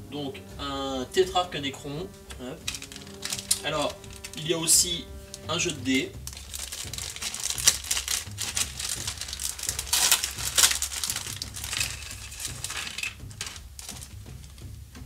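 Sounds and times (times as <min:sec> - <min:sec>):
plastic packaging crinkling: 0:02.2 - 0:14.7.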